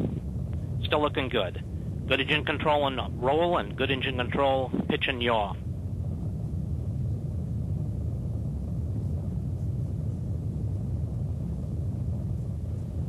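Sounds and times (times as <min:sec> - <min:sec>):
rocket engine rumble: 0:00.0 - 0:13.0.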